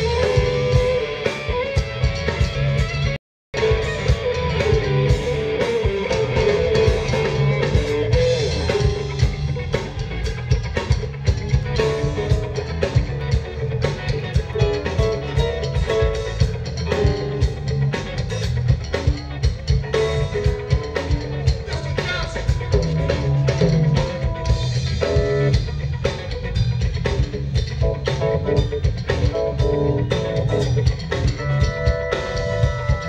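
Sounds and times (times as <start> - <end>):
electric guitar: 0.0 - 33.0
live band playing: 0.0 - 33.0.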